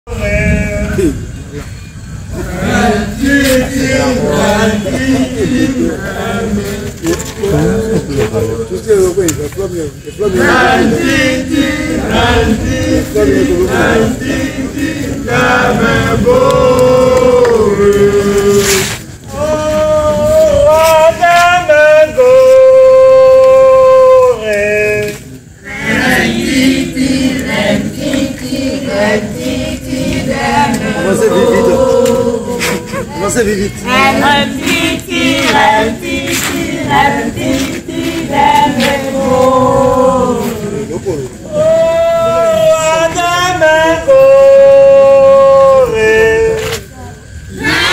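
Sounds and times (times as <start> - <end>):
group of voices singing: 0.1 - 1.4, 2.2 - 8.7, 10.1 - 47.9.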